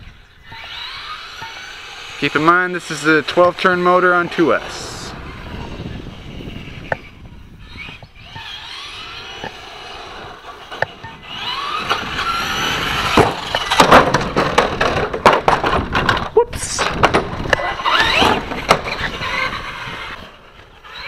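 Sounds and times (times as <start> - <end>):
electric motor whining: 0.0 - 15.1, 15.8 - 21.0.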